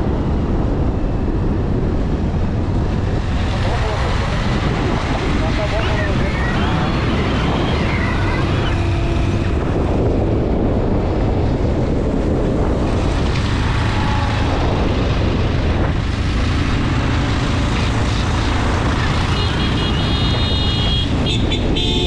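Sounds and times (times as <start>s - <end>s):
motorcycle engine drone: 0.0s - 22.0s
wind on microphone: 0.0s - 22.0s.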